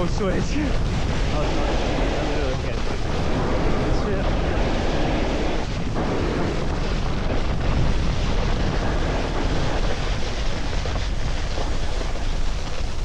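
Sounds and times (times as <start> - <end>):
snowboard scraping over snow: 0.0 - 13.0
wind buffeting microphone: 0.0 - 13.0.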